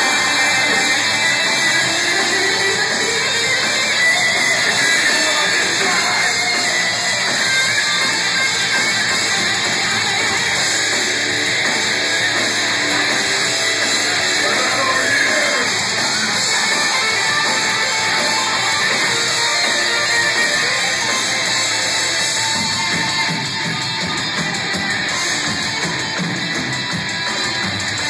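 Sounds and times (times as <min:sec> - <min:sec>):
live metal band playing: 0:00.0 - 0:28.0.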